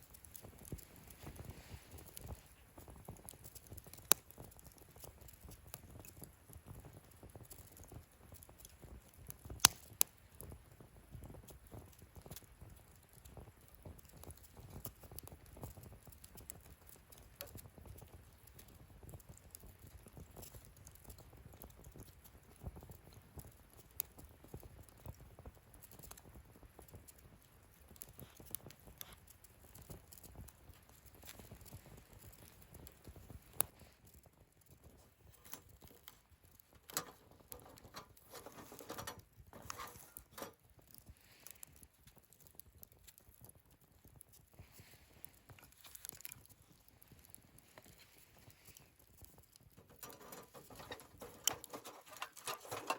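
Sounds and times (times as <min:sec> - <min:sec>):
low rumble of flame: 0:00.0 - 0:52.9
wood fire crackling: 0:00.0 - 0:52.9.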